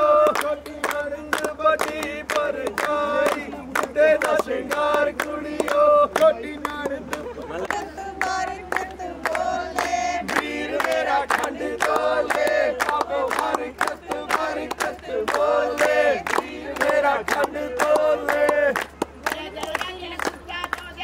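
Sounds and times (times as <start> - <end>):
group singing in chorus: 0.0 - 19.0
hand-clapping rhythm: 0.0 - 21.0.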